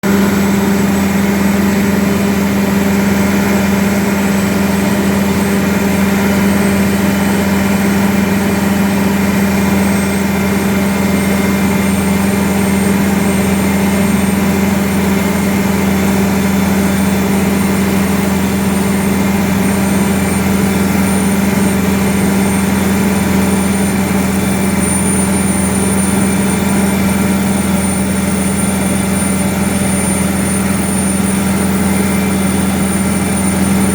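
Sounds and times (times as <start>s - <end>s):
diesel truck engine idling: 0.0s - 33.9s
turbocharger high whistle: 0.0s - 33.9s.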